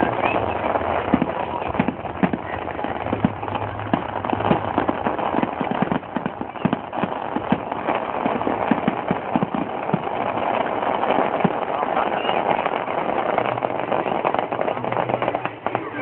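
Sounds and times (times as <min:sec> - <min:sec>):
firecrackers popping: 0:00.0 - 0:16.0
noisy background: 0:00.0 - 0:16.0.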